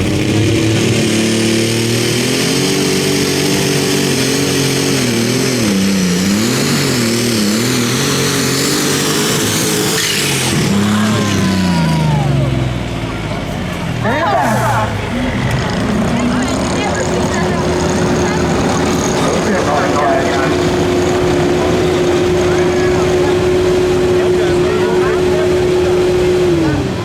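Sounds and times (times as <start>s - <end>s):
engine running at high revs: 0.0s - 27.0s.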